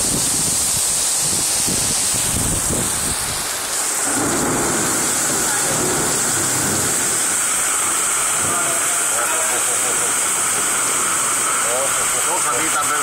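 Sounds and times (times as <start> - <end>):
heavy rain on pavement: 0.0 - 13.0.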